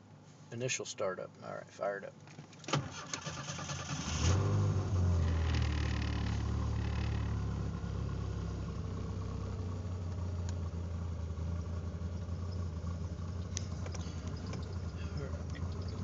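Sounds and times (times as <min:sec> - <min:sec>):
car engine idling: 0:02.4 - 0:16.0.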